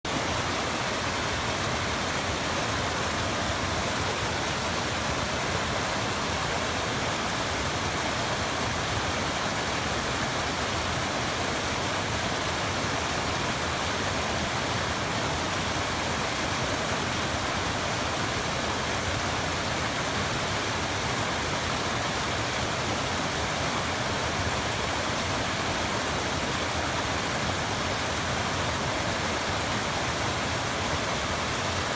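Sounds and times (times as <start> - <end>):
mountain stream rushing: 0.0 - 31.9.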